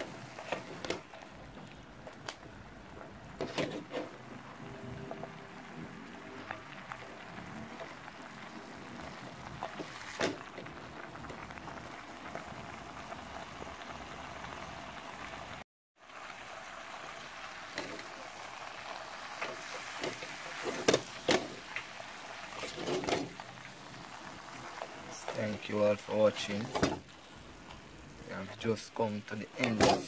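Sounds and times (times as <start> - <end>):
food sizzling in a pan: 0.0 - 30.0.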